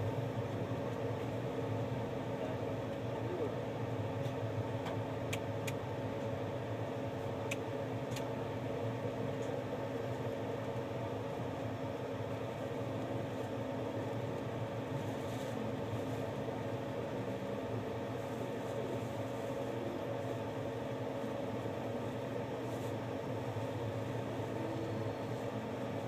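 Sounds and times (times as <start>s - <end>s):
train carriage hum and rumble: 0.0s - 26.0s.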